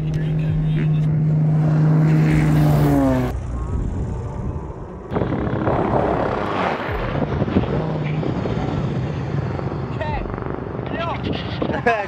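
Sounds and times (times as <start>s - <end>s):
engine running: 0.0s - 11.7s.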